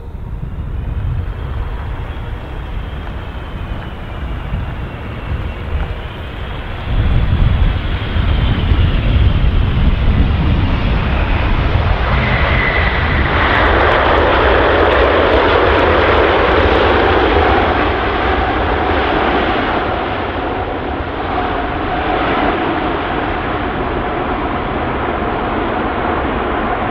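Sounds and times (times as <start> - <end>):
jet engines rumbling on landing: 0.0 - 26.9.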